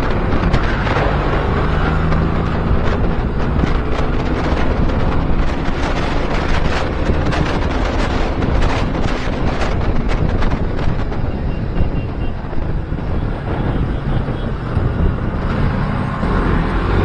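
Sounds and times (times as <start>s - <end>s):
motorcycle engine noise: 0.0s - 17.0s
wind buffeting microphone: 0.0s - 17.0s.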